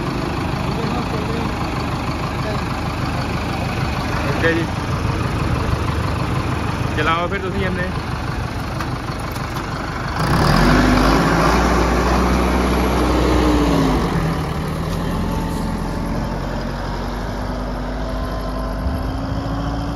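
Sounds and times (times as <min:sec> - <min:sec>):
tractor diesel engine revving: 0:00.0 - 0:19.9.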